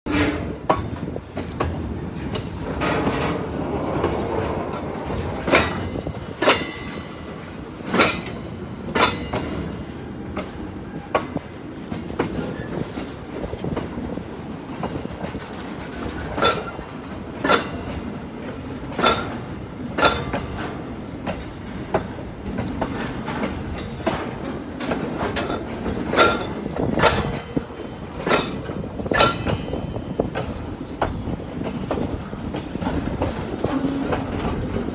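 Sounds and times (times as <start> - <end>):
freight train rolling past: 0.1 - 34.9
wheels clacking over rail joints: 0.1 - 34.9.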